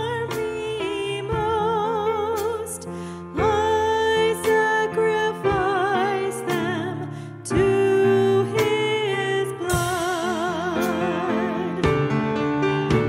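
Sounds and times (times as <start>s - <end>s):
bass guitar: 0.0s - 13.0s
keyboard: 0.0s - 13.0s.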